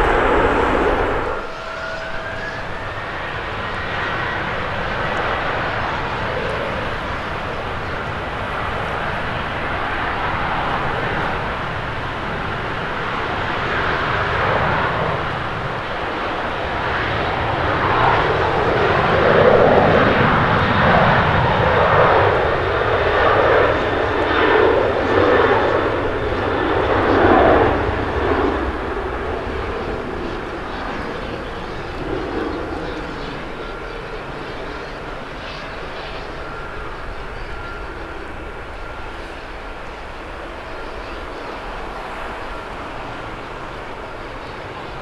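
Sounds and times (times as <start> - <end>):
jet engines at takeoff: 0.0 - 45.0.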